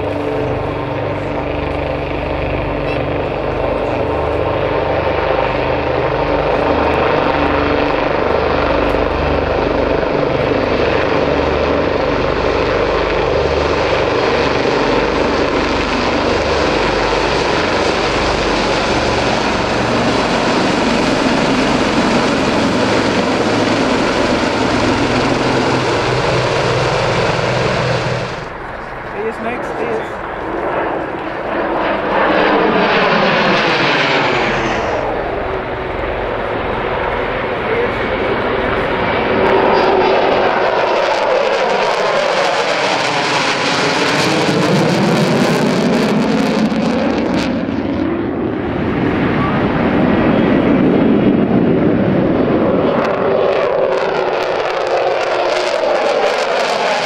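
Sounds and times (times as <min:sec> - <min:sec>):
helicopter rotors chopping: 0:00.0 - 0:57.0
turbine rush: 0:00.0 - 0:57.0.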